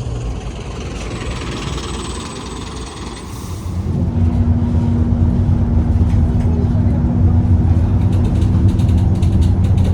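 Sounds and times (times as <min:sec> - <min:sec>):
vehicle engine running: 0:00.0 - 0:09.9.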